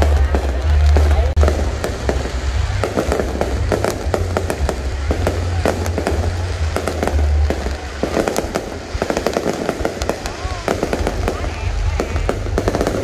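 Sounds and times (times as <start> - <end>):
fireworks bangs and crackles: 0.0 - 13.0
steady low rumble: 0.0 - 13.0.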